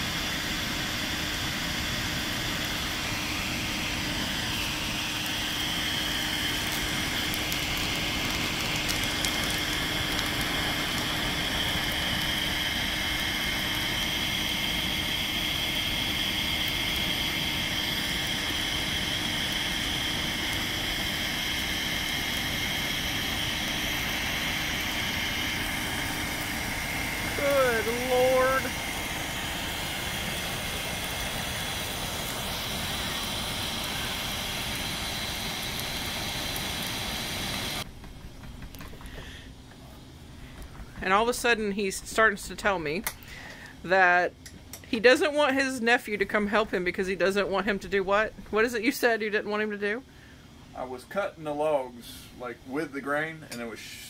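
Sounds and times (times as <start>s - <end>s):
bonfire flames rushing: 0.0s - 44.0s
fire crackling and popping: 0.1s - 44.9s.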